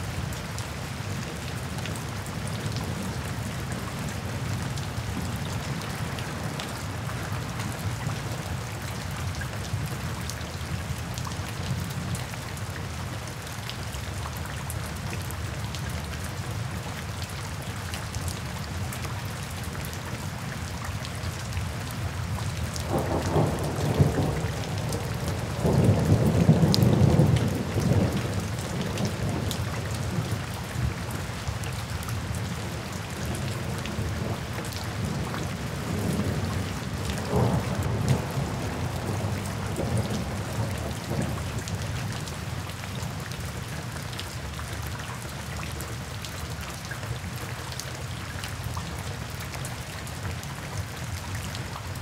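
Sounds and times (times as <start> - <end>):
rain on wet pavement: 0.0 - 52.0
raindrops splashing: 0.0 - 52.0.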